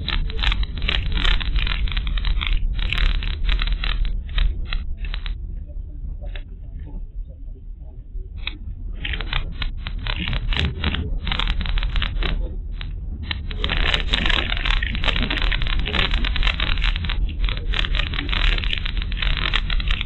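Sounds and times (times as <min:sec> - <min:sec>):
crackling and rattling: 0:00.0 - 0:07.0, 0:08.4 - 0:20.0
car road rumble: 0:00.0 - 0:20.0.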